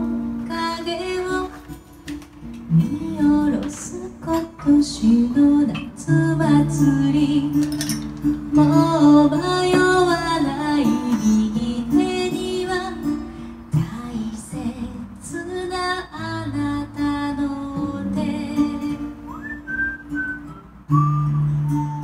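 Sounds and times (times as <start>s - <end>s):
woman singing: 0.0s - 2.1s, 2.7s - 22.0s
acoustic guitar: 0.0s - 22.0s.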